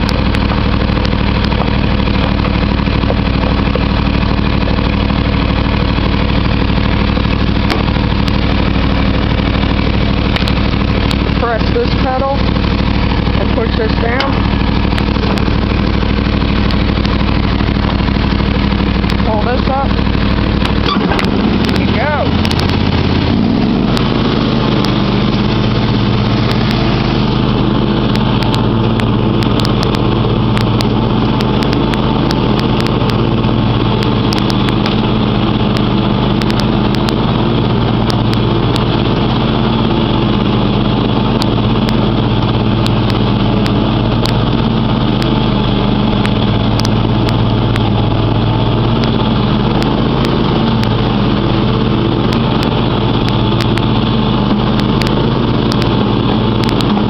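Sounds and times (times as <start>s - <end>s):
riding mower engine running: 0.0s - 57.0s.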